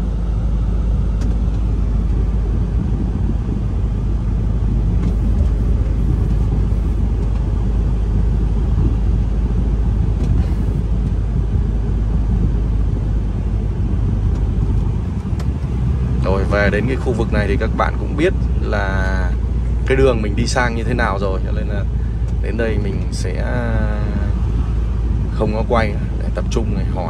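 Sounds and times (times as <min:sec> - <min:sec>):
truck engine and road rumble: 0:00.0 - 0:27.0.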